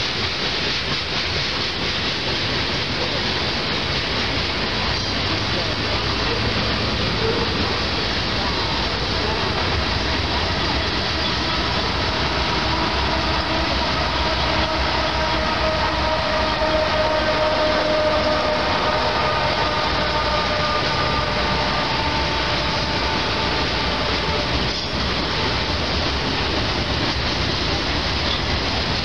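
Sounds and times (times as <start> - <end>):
diesel locomotive whine: 0.0 - 29.0
freight cars rumbling on rails: 0.0 - 29.0.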